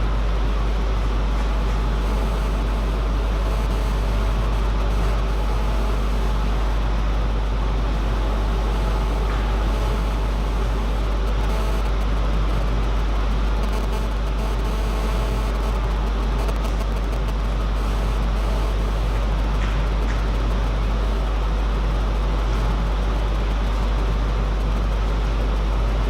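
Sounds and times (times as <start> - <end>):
low hum: 0.0 - 24.1
steady background noise: 0.0 - 26.0.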